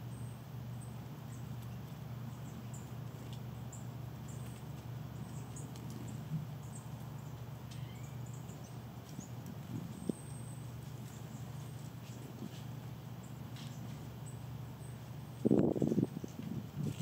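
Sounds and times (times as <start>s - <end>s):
songbirds chip calls: 0.0s - 17.0s
steady low hum: 0.0s - 17.0s.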